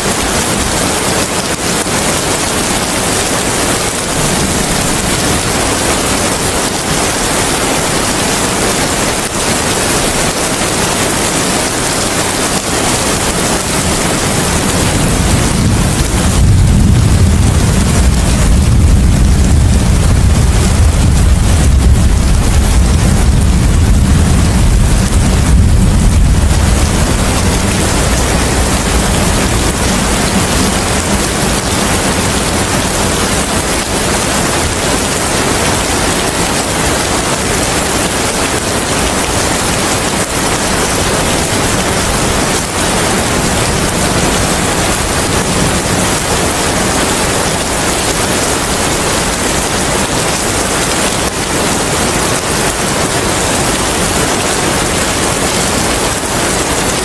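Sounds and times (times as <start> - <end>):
heavy rain hissing: 0.0 - 57.0
thunder rumbling: 0.0 - 57.0.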